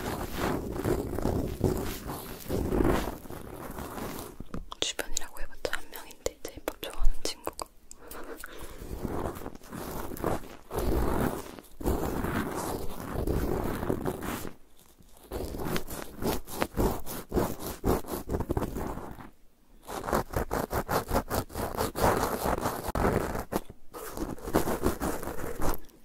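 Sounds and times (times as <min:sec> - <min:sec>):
fingertip rubbing microphone: 0:00.0 - 0:04.6, 0:08.2 - 0:25.9
cotton swab scratching microphone grille: 0:00.0 - 0:26.0.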